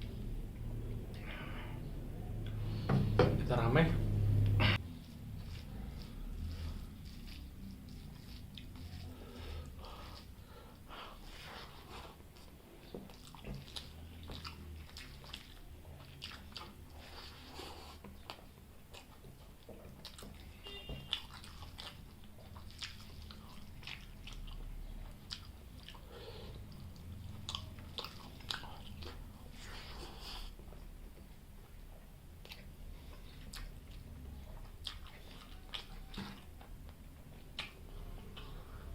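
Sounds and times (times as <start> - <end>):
person chewing food: 4.2 - 38.9.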